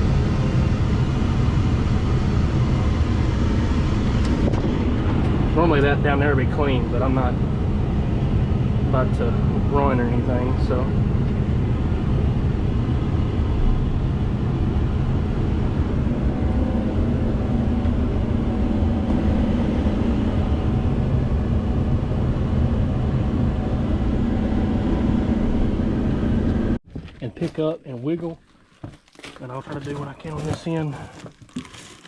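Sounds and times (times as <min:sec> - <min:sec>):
engine droning steadily: 0:00.0 - 0:31.9.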